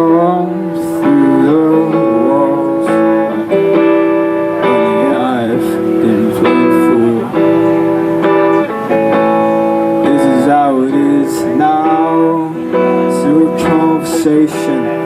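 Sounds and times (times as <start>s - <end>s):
person singing: 0.0s - 15.0s
strummed guitar chords: 0.0s - 15.0s.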